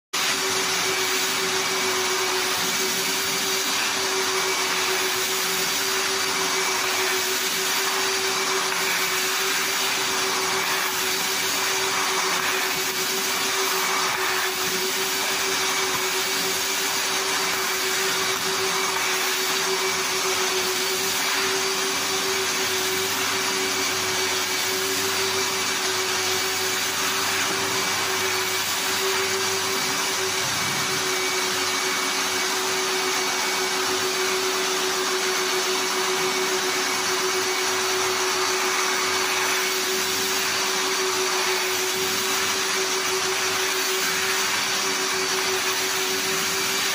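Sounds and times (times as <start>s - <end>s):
vacuum cleaner running: 0.1s - 46.9s.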